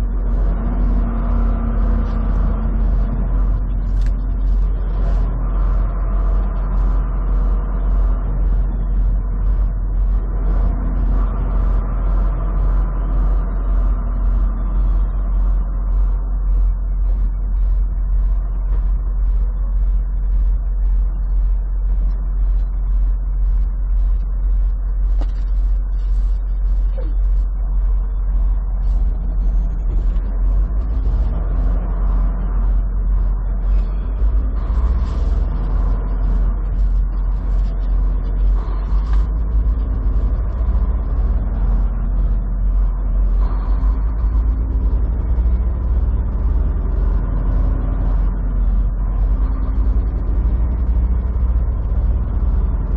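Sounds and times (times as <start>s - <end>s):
faint regular ticking: 0.0s - 52.9s
truck engine and road rumble: 0.0s - 52.9s.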